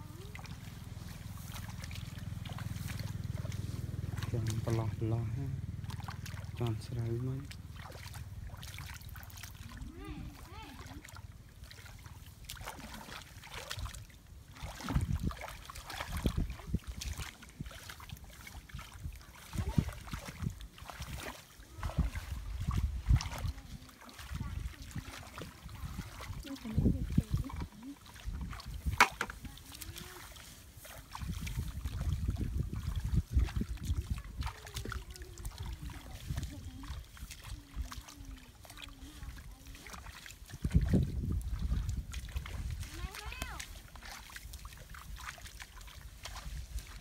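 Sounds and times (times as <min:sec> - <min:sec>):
feet sloshing through muddy water: 0:00.0 - 0:47.0.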